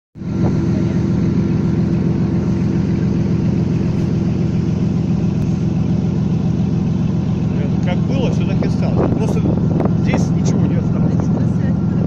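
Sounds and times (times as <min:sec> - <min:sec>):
engine droning steadily: 0:00.2 - 0:12.0.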